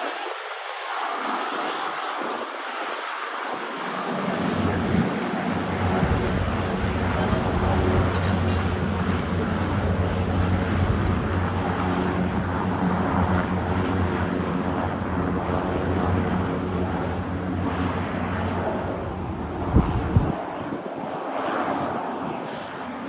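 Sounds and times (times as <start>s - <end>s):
aircraft engine humming: 0.7s - 20.8s.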